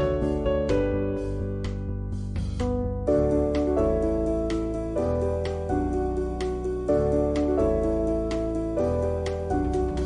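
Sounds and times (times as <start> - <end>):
low bass: 0.0 - 10.0
soft piano chords: 0.0 - 10.0.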